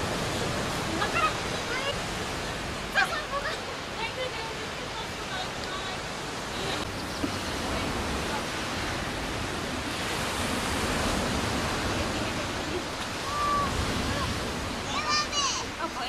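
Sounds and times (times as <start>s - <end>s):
sea surf: 0.0s - 16.0s
wind: 0.0s - 16.0s.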